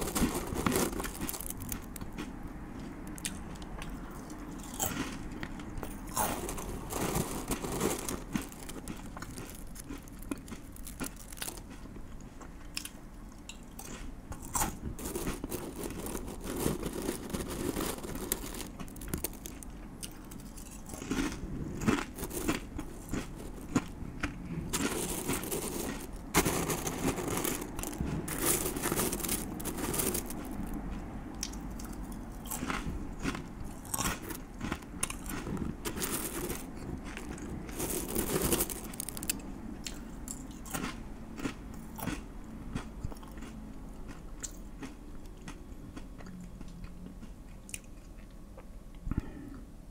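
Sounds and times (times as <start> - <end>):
crunchy biting and chewing: 0.0 - 48.7.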